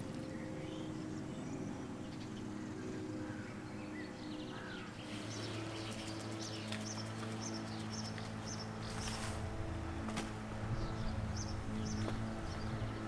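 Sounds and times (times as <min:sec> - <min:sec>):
songbirds chirping: 0:00.0 - 0:13.0
steady low hum: 0:00.0 - 0:13.0.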